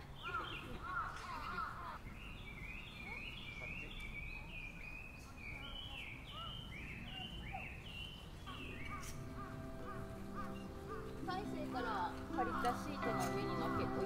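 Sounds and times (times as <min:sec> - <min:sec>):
low outdoor background noise: 0:00.0 - 0:14.0
small birds chirping: 0:00.0 - 0:14.0.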